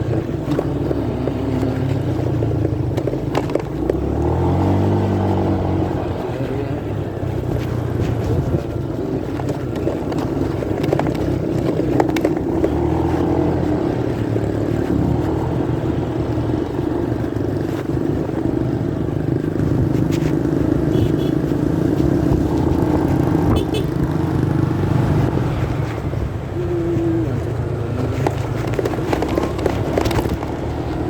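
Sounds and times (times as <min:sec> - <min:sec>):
muffled motorcycle engine: 0:00.0 - 0:31.0.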